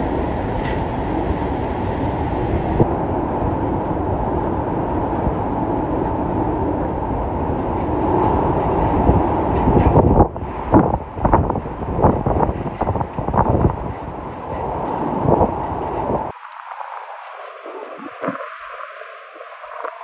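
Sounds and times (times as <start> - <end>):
strong wind rushing around car: 0.0 - 20.0.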